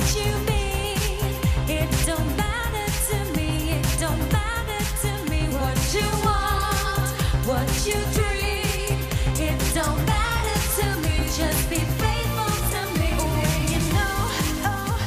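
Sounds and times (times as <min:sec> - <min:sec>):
pop beat and bass: 0:00.0 - 0:15.0
woman singing: 0:00.0 - 0:15.0.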